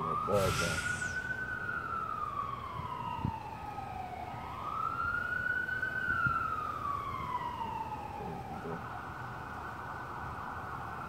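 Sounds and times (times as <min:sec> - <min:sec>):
siren wailing: 0:00.0 - 0:09.3.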